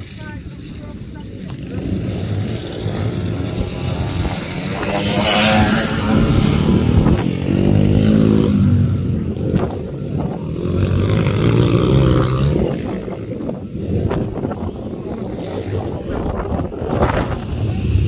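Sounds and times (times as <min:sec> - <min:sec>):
pit bike engines revving: 0:00.0 - 0:18.0.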